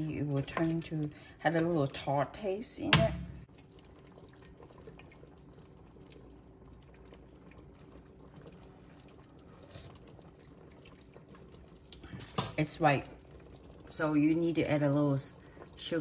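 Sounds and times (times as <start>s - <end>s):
sauce simmering in a pot: 0.0s - 16.0s.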